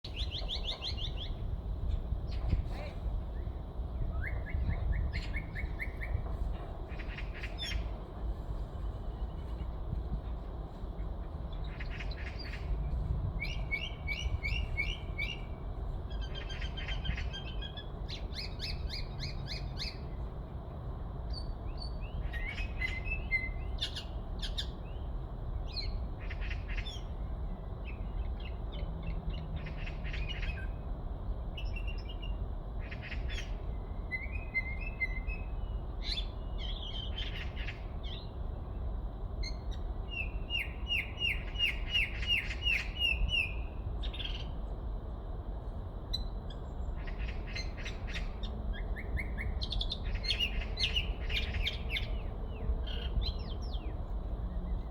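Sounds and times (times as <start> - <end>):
songbird singing: 0.0 - 10.1, 10.8 - 20.4, 21.2 - 38.8, 39.4 - 44.8, 46.0 - 54.9.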